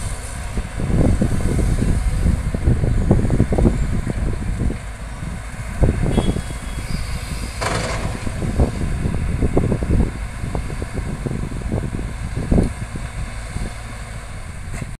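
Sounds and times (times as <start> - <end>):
excavator diesel engines rumbling: 0.0 - 14.9
wind buffeting microphone: 0.0 - 14.9.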